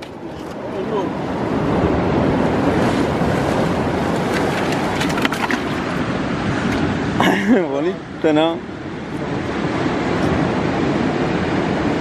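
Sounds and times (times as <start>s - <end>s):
wind on microphone: 0.0s - 7.4s, 8.0s - 12.0s
sea surf washing over rocks: 0.0s - 12.0s.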